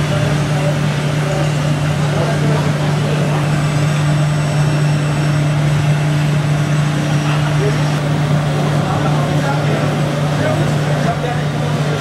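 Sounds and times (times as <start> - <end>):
murmur of voices: 0.0 - 5.1, 5.8 - 12.0
steady low drone: 0.0 - 12.0.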